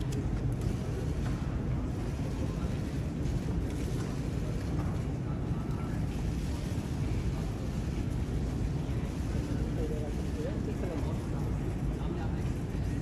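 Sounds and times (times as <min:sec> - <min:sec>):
low rumble of background noise: 0:00.0 - 0:13.0.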